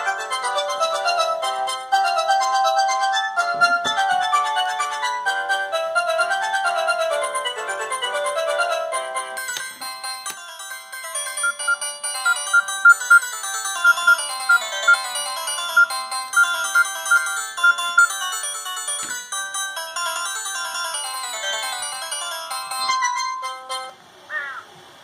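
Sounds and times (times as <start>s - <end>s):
polyphonic phone ringtone: 0.0s - 24.0s.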